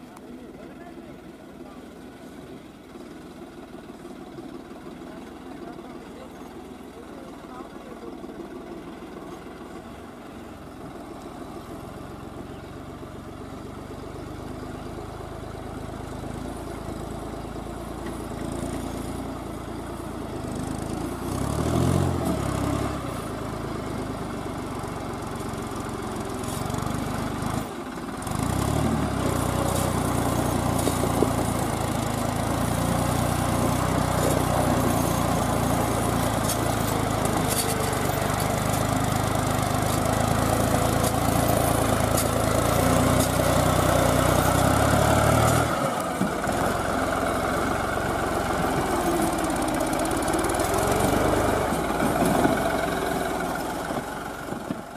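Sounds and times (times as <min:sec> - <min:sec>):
diesel tractor engine working hard: 0:00.0 - 0:54.9.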